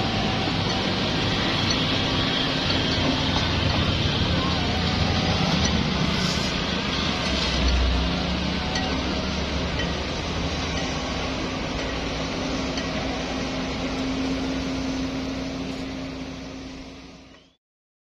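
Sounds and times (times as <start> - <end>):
diesel engines running: 0.0 - 17.6.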